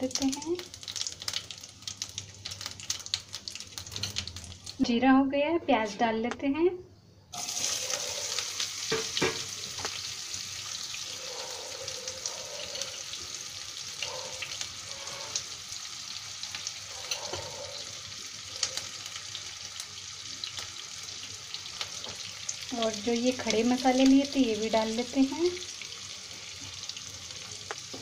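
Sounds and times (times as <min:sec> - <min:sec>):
onions sizzling in hot oil: 0:00.0 - 0:04.8, 0:07.3 - 0:28.0.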